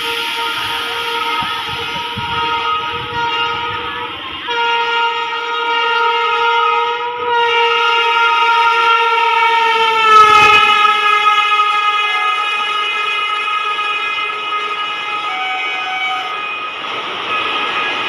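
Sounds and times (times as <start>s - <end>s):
locomotive horn blast: 0.0s - 16.8s
passing train rumble: 0.0s - 18.0s.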